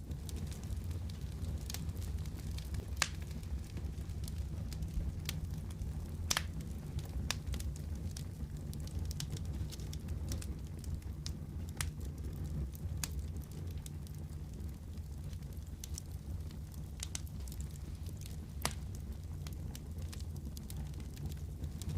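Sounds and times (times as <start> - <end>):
low rumble of fire: 0.0 - 21.9
wood fire crackling: 0.0 - 21.9.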